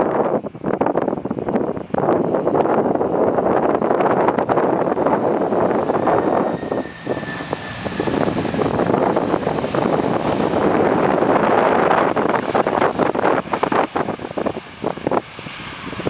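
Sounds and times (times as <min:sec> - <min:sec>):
jet engine rush: 0:00.0 - 0:16.0.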